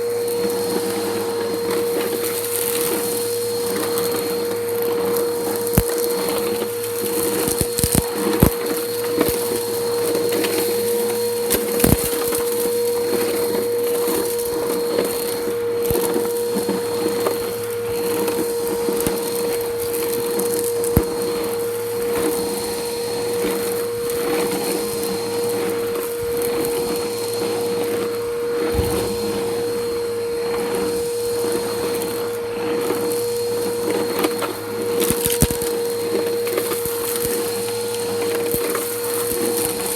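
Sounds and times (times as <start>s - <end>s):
grit crunching through vacuum: 0.0s - 39.9s
upright vacuum motor whine: 0.0s - 39.9s.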